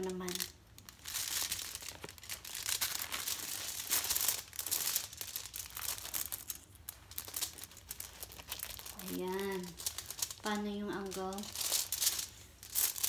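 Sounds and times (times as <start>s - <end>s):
paper and foil crinkling: 0.0s - 13.0s.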